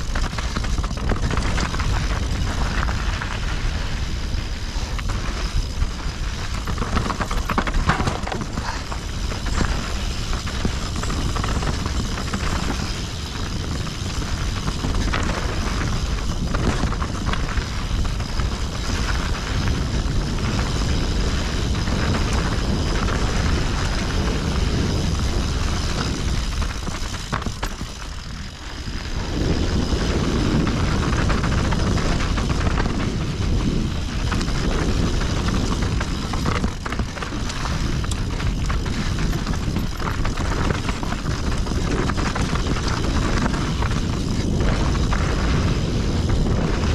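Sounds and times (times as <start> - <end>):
bike rattling over rocks: 0.0 - 46.9
wind rumbling on microphone: 0.0 - 46.9.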